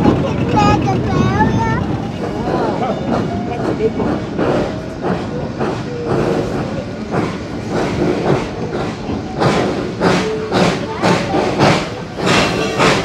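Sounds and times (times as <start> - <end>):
steam train running: 0.0 - 13.0.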